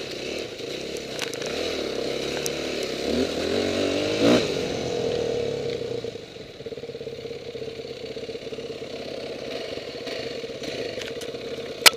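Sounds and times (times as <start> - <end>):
dirt bike engine idling: 0.0 - 11.9.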